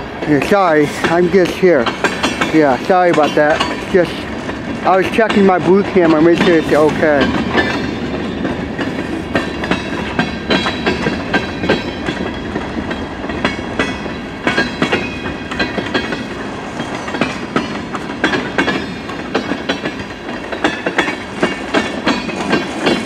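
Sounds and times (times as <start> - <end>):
train wheels rumbling on rail: 0.0 - 23.0
wheels clicking and clacking: 0.0 - 23.0.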